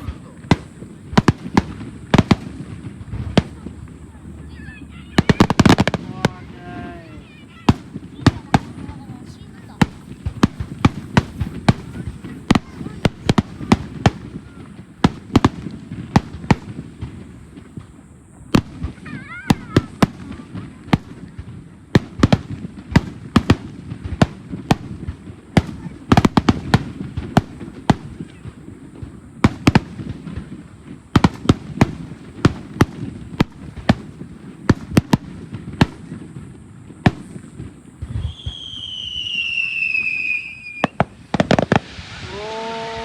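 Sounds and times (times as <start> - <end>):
fireworks cracks and bangs: 0.0 - 43.0.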